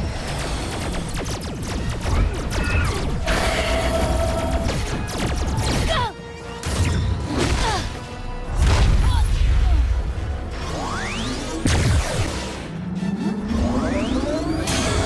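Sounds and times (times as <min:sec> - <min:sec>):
action background music: 0:00.0 - 0:15.0.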